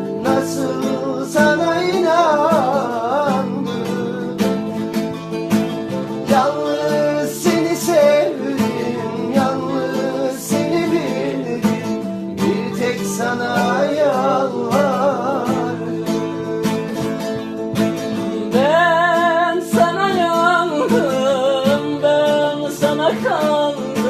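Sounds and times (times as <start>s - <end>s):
person singing: 0.0s - 4.9s, 6.0s - 24.0s
plucked string instrument: 0.0s - 24.0s.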